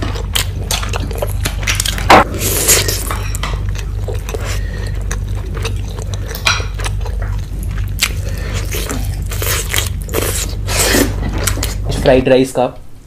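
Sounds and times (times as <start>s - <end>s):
chewing: 0.0s - 11.8s
steady low hum: 0.0s - 13.0s.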